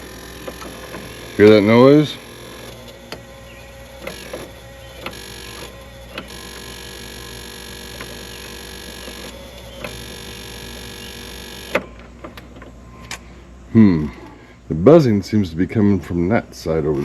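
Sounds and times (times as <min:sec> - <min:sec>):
electrical relay buzz: 0:00.0 - 0:15.0.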